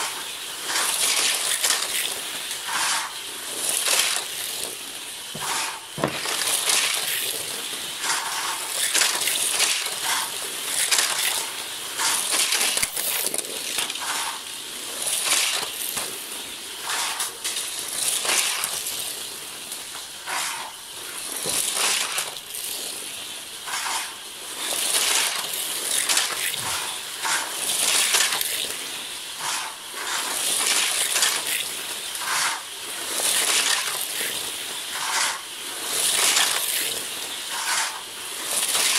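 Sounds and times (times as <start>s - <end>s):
toy cars passing on track: 0.0s - 38.9s.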